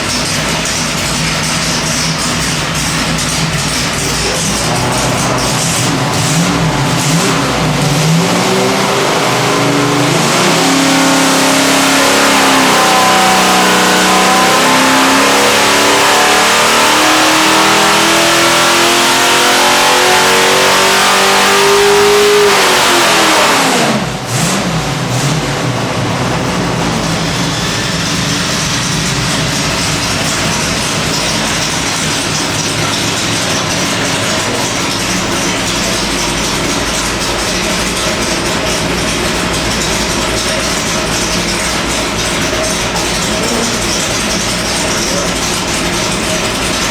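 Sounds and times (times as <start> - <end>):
engine revving on a dyno: 0.0 - 46.9.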